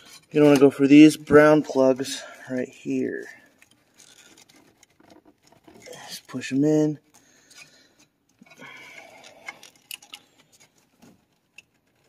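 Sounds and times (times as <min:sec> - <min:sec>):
rustling of plastic plugs: 0:00.0 - 0:12.0.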